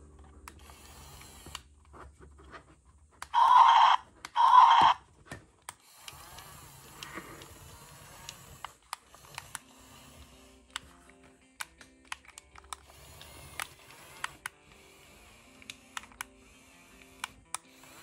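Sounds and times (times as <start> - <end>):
toy electric motors whirring: 0.5 - 1.7, 3.3 - 5.0, 5.7 - 11.0, 11.6 - 18.0.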